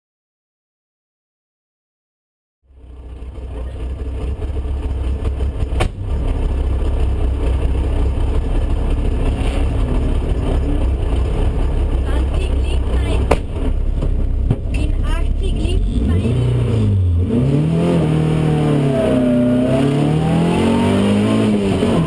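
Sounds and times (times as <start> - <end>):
car engine low rumble: 2.6 - 22.0.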